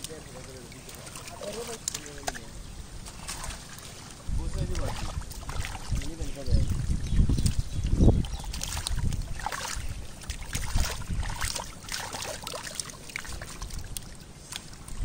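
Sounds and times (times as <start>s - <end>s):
wet mud squelching and sloshing: 0.0s - 15.0s.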